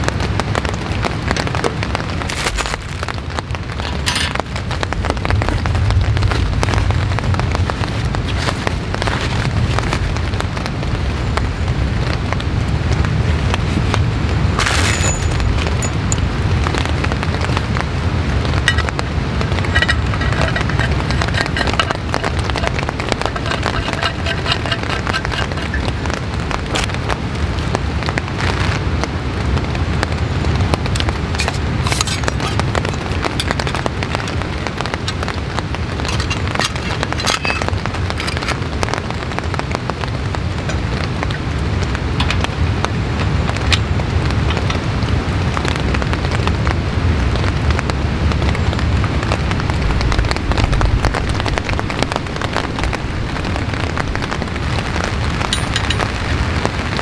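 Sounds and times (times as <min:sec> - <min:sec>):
light rain pattering: 0:00.0 - 0:57.0.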